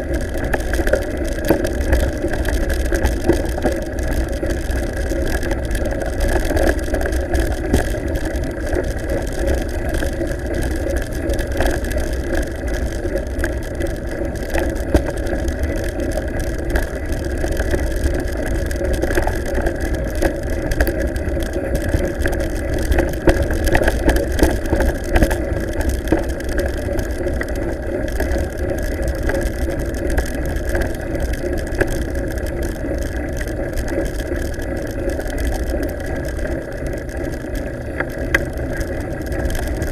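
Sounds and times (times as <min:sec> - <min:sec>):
bike rolling over stony track: 0:00.0 - 0:39.9.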